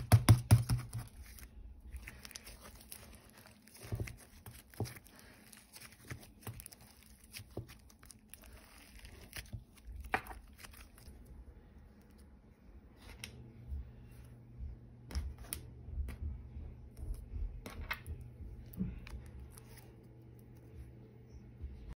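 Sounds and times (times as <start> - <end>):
hand handling rumble: 0.1 - 21.0.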